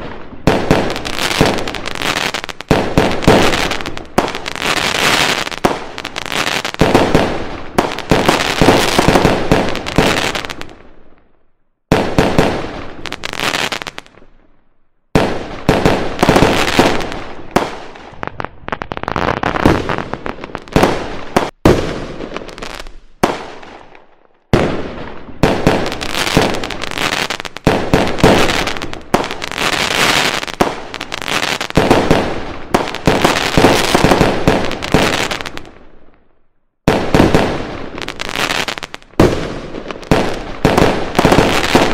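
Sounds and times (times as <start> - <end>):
fireworks bangs and crackling: 0.0 - 11.3, 11.9 - 36.2, 36.8 - 41.9.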